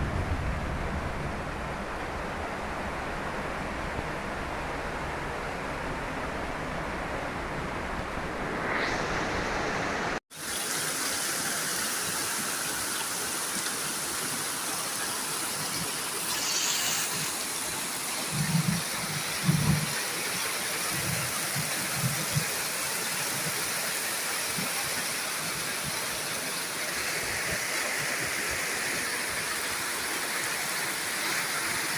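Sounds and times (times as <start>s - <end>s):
rush of floodwater and rain: 0.0s - 31.9s.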